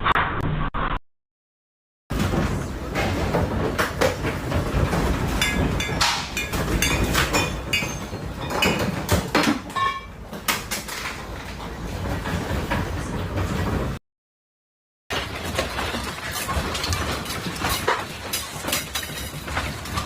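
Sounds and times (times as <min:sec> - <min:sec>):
objects rattling and clattering: 0:02.1 - 0:14.0, 0:15.1 - 0:20.0.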